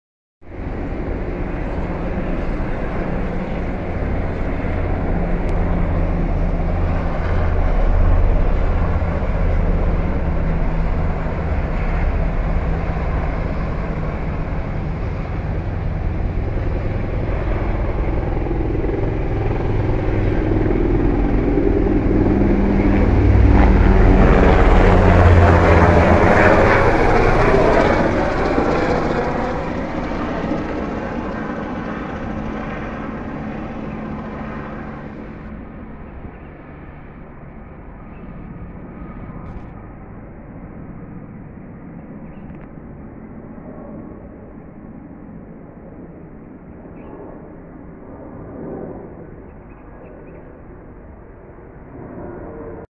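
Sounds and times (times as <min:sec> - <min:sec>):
helicopter engine noise: 0:00.5 - 0:52.8
helicopter rotor beat: 0:00.5 - 0:52.8.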